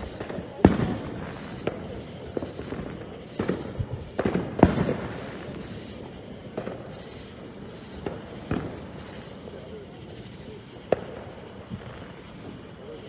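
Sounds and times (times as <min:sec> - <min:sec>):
distant fireworks bangs: 0:00.0 - 0:13.0.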